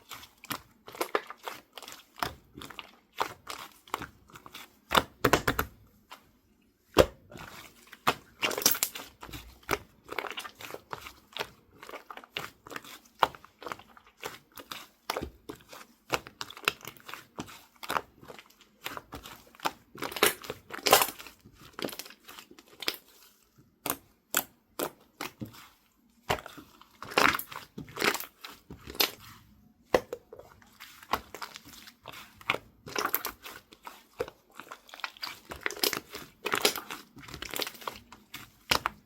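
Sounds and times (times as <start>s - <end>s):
slime squishing with sticky clicks: 0.0s - 39.0s.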